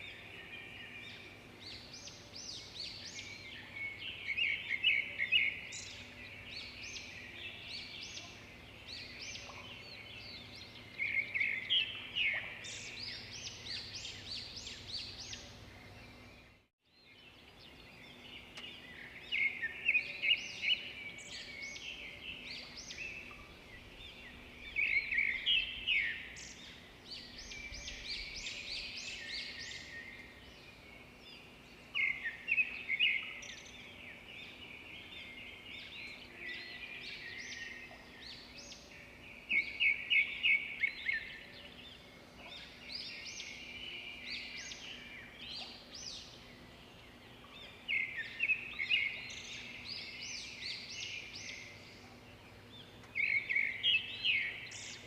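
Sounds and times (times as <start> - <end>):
faint steady background noise: 0.0 - 55.0
songbirds chirping and singing: 0.0 - 55.0.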